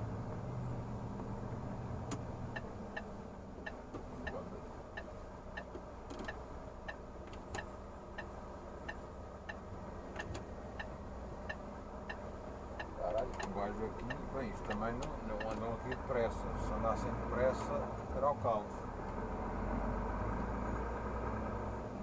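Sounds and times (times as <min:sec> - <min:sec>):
truck engine running low: 0:00.0 - 0:22.0
turn signal ticking: 0:00.0 - 0:22.0.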